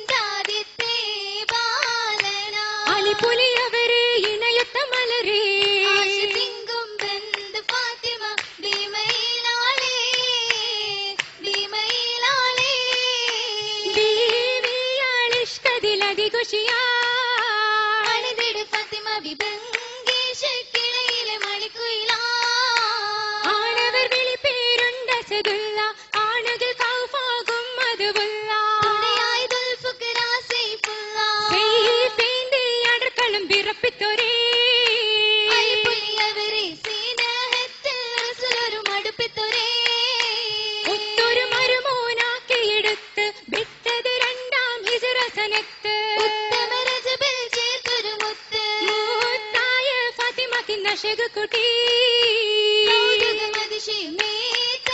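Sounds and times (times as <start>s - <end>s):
girls singing: 0.0s - 54.9s
rhythmic hand claps: 0.0s - 54.9s.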